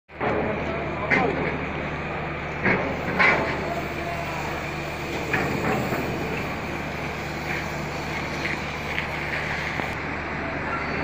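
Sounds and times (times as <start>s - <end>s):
heavy engine droning: 0.1s - 11.0s.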